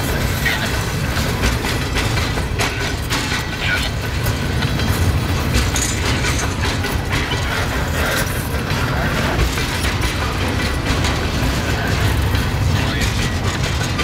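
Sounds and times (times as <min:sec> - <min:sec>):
clanking knocks: 0:00.0 - 0:14.0
train wheels rumbling on rail: 0:00.0 - 0:14.0.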